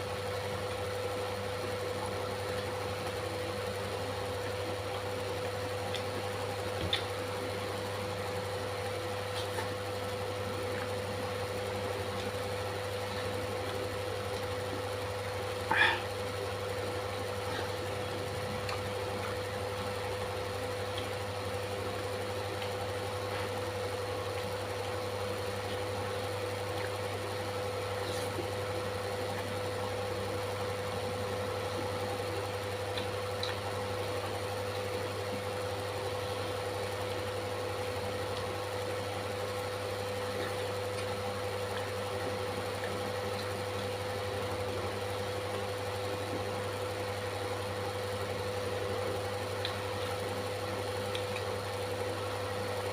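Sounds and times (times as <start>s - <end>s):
machine hum: 0.0s - 52.9s.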